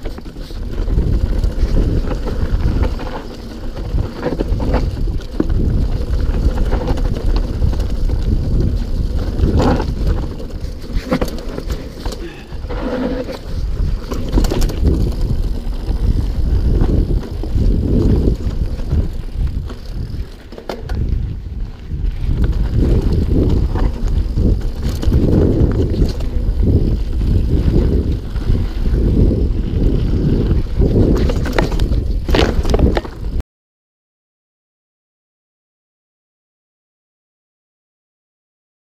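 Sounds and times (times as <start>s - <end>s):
bike rattling over rough trail: 0.0s - 33.4s.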